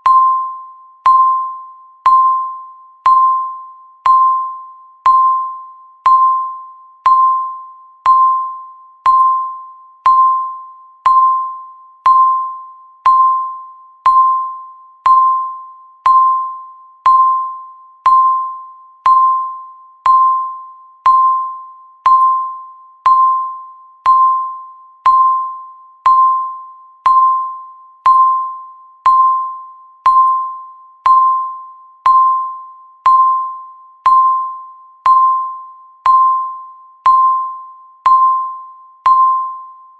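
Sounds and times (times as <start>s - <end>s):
electronic bell-like ding: 0.0s - 39.9s.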